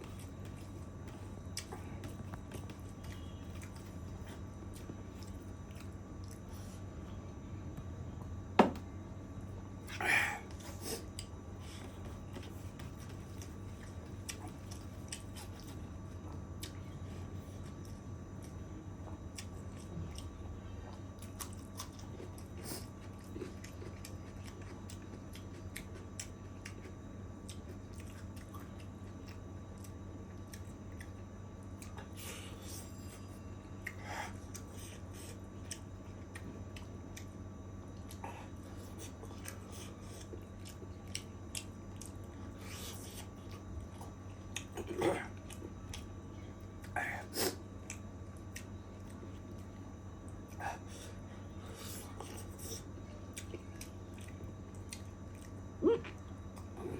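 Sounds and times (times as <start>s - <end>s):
person chewing food: 0.0s - 6.9s, 9.8s - 56.9s
steady low hum: 0.0s - 56.9s.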